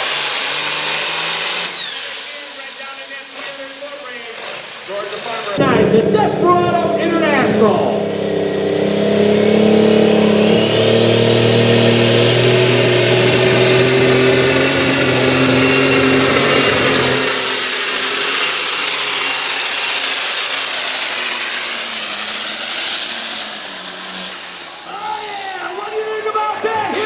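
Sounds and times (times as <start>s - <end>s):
tractor engine at full throttle: 0.0s - 27.0s
high engine whine: 1.6s - 27.0s.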